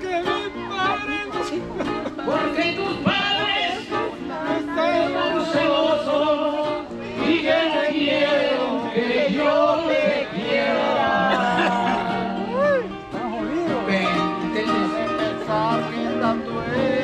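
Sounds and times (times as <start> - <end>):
acoustic guitars playing: 0.0 - 17.0.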